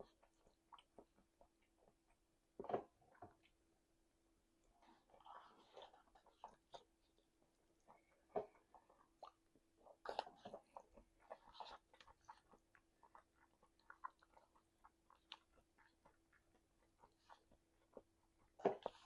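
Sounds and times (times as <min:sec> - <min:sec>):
chewing food: 0:00.0 - 0:03.6, 0:04.6 - 0:19.0.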